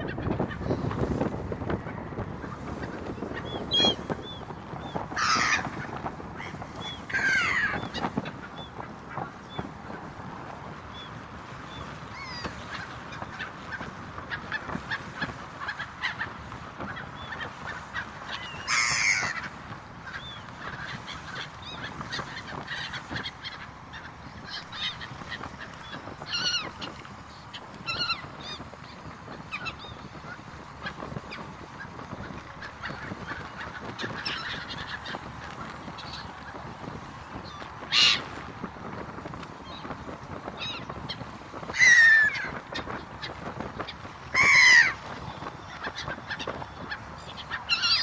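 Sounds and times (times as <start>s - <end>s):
ferry engine and rushing water: 0.0s - 48.0s
gulls squawking: 0.0s - 48.0s.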